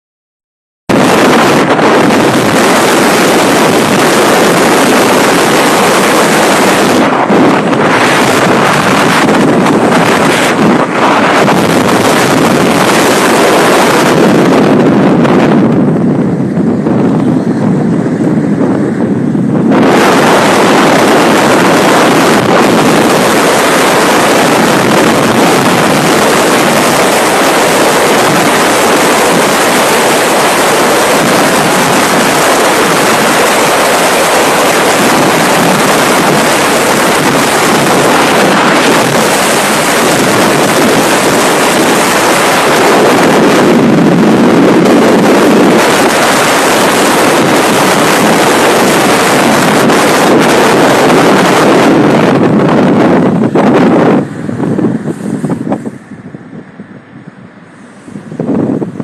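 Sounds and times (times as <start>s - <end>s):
wind buffeting microphone: 0.9s - 59.0s.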